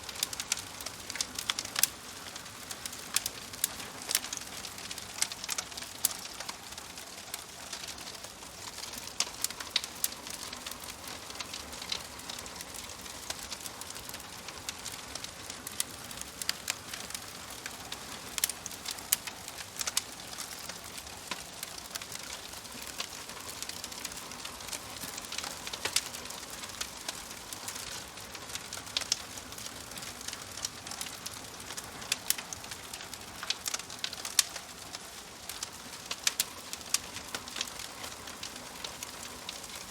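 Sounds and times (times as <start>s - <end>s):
campfire hissing: 0.0s - 39.9s
wood crackling and popping: 0.0s - 39.9s.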